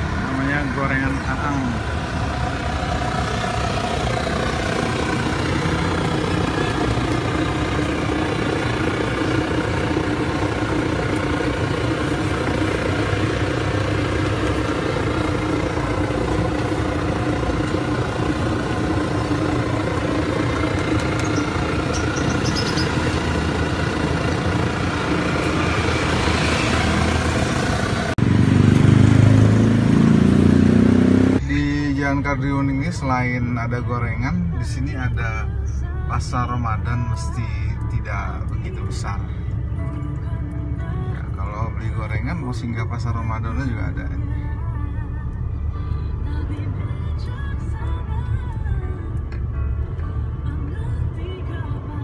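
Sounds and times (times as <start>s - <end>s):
engine humming: 0.0s - 52.0s.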